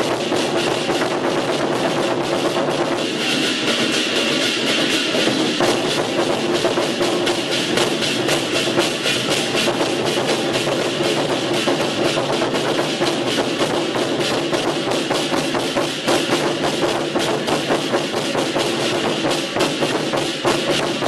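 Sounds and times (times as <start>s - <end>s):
barrel drums beaten: 0.0s - 21.0s
hand cymbals clashing: 0.0s - 21.0s.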